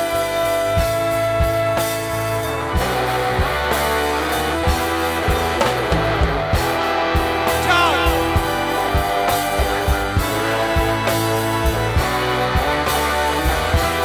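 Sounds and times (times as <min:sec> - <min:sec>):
electric guitar: 0:00.0 - 0:14.0
drum kit beat: 0:00.8 - 0:14.0.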